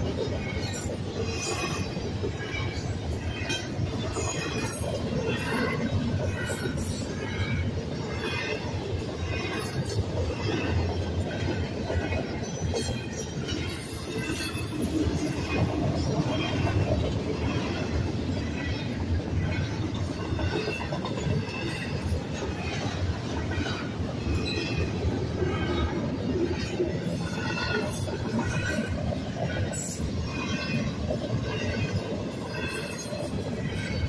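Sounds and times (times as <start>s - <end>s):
steel wheels rumbling on rail: 0.0s - 34.0s.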